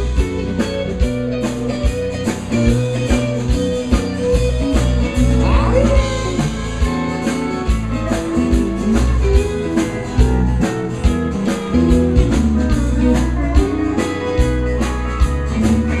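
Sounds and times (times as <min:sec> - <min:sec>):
country band playing live: 0:00.0 - 0:16.0.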